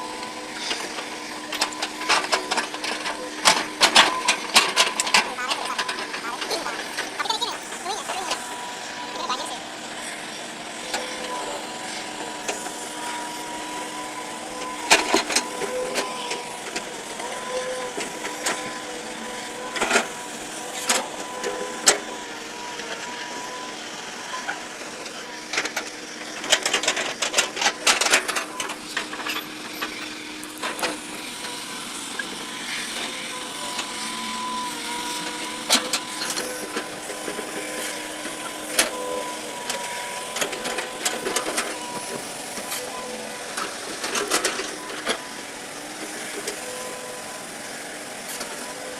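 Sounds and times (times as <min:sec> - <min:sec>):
heavy equipment engine whining: 0:00.0 - 0:48.9.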